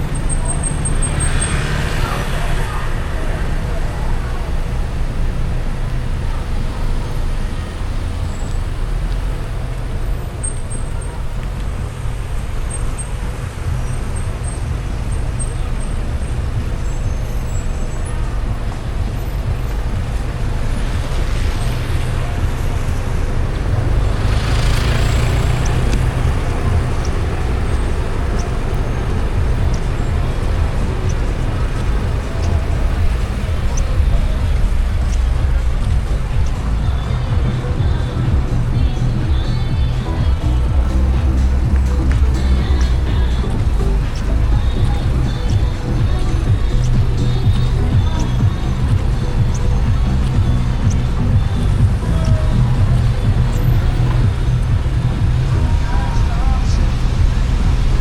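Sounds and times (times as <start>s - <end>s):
car on wet road rumble: 0.0s - 58.0s
passing traffic hiss: 0.0s - 58.0s.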